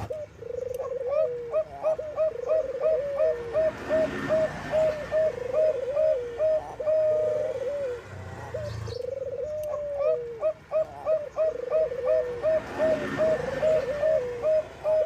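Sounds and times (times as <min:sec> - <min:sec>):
dove cooing and trilling: 0:00.0 - 0:15.0.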